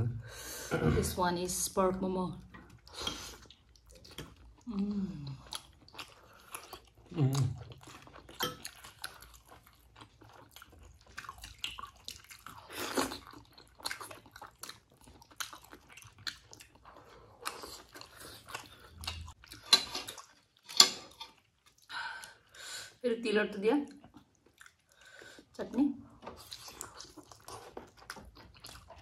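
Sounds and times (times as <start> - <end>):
chewing and biting dumplings: 2.5 - 22.5, 23.9 - 25.5, 26.1 - 29.0.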